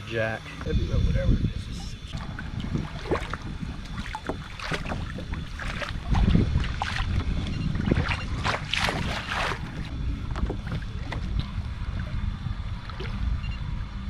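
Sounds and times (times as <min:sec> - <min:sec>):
wind buffeting microphone: 0:00.2 - 0:14.0
water splashing against kayak hull: 0:01.7 - 0:13.3.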